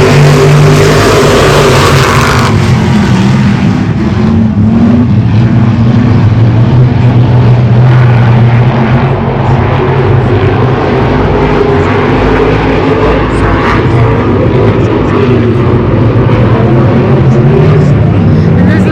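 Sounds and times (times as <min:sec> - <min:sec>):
race car engines droning: 0:00.0 - 0:18.9
rushing noise: 0:00.0 - 0:18.9.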